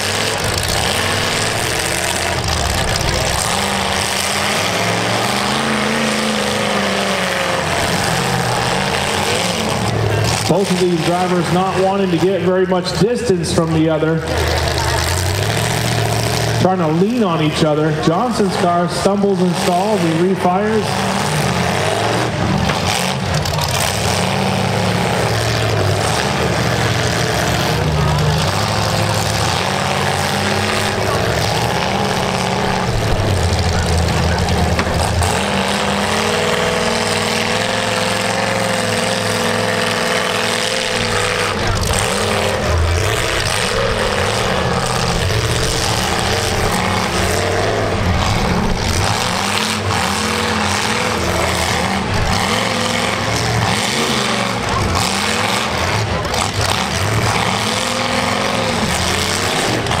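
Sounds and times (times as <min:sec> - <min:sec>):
car engines revving: 0:00.0 - 1:00.0.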